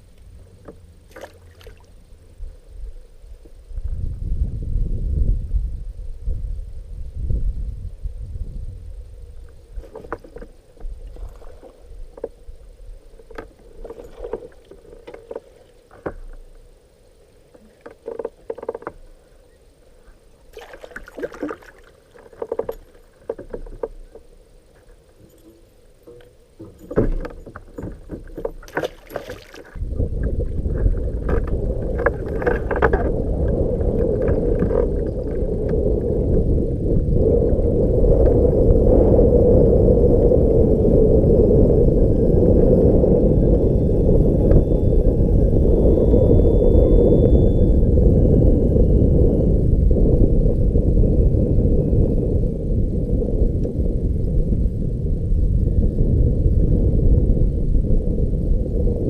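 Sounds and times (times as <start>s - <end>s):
water and wind noise: 0.0s - 59.0s.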